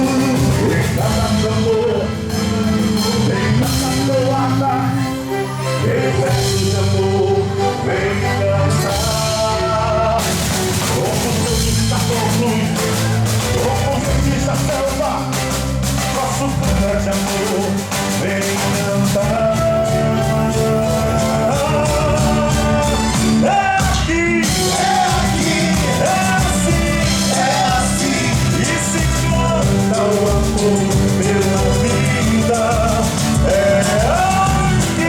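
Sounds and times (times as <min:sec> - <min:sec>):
band with driving percussion: 0:00.0 - 0:35.0
person singing: 0:00.0 - 0:35.0.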